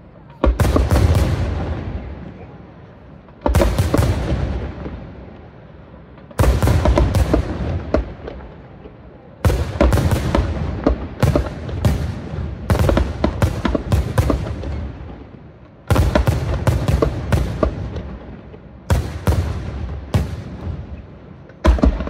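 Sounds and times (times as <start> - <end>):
fireworks bangs and cracks: 0.1 - 22.0.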